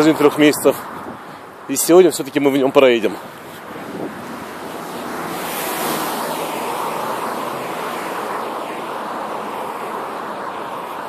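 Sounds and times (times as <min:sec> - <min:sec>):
road traffic tyre noise: 0:00.0 - 0:11.0.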